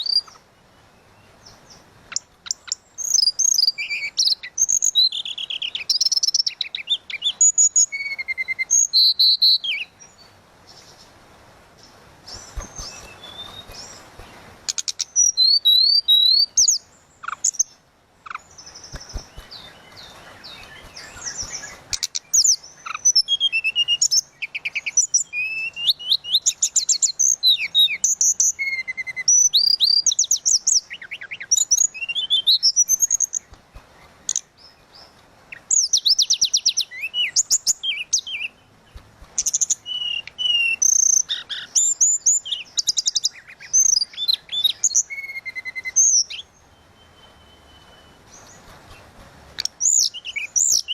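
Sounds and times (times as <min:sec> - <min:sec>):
bird singing whistled notes: 0:00.0 - 0:00.4, 0:01.0 - 0:10.9, 0:12.3 - 0:33.5, 0:34.3 - 0:38.7, 0:39.4 - 0:48.8, 0:49.6 - 0:50.9.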